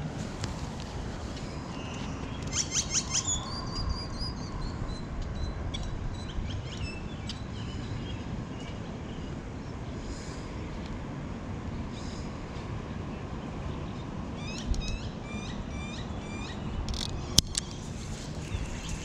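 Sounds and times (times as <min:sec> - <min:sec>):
small birds chirping: 0:01.3 - 0:10.8, 0:13.1 - 0:19.0.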